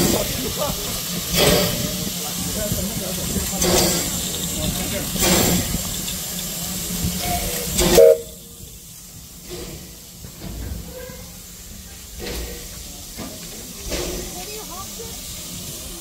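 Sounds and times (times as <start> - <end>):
steam locomotive hissing: 0.0 - 16.0.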